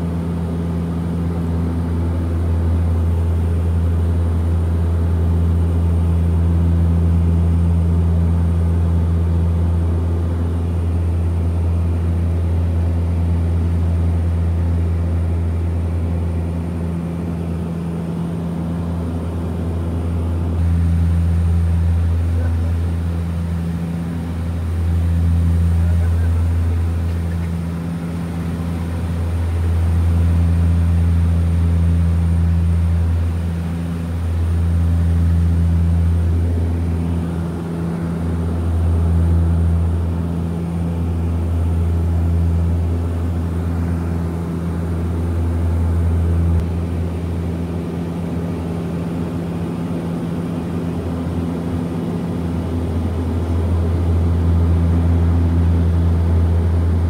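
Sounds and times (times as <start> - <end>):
turboprop propeller cabin drone: 0.0 - 57.0.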